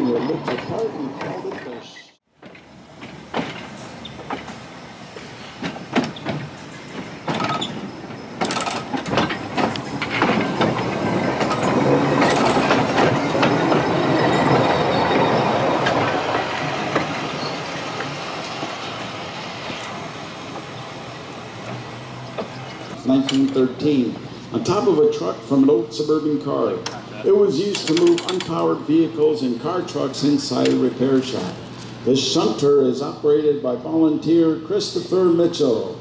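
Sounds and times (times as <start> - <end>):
streetcar wheels clicking over rail joints: 0.0 - 24.8, 26.8 - 29.2, 29.8 - 32.0.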